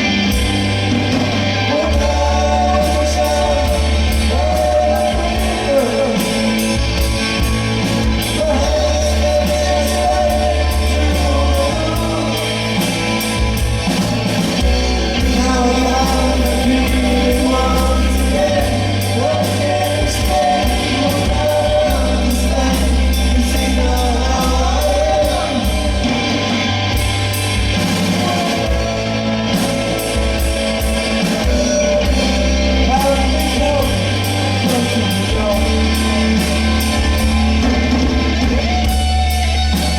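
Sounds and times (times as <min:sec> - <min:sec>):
bass line: 0:00.0 - 0:39.9
person singing: 0:01.5 - 0:13.5, 0:15.0 - 0:26.6, 0:27.8 - 0:38.0.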